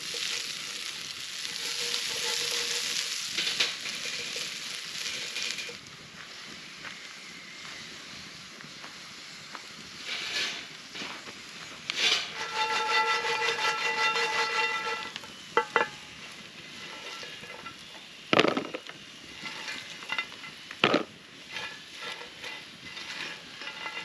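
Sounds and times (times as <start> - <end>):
vegetables sizzling in a skillet: 0.0 - 24.0.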